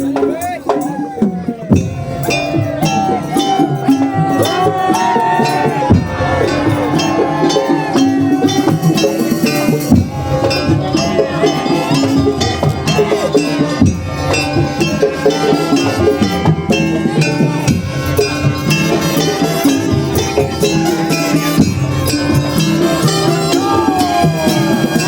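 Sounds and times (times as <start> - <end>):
drums and percussion: 0.0 - 25.0
sliding melody: 1.6 - 25.0.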